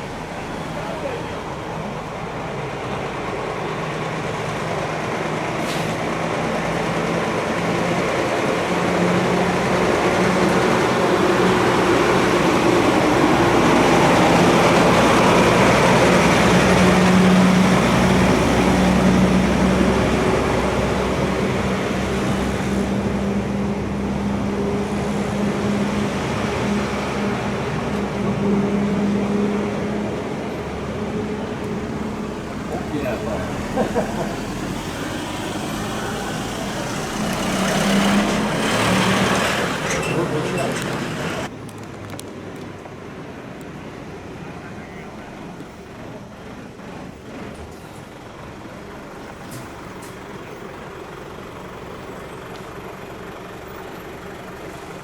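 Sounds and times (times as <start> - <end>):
large truck engine running: 0.0 - 55.0.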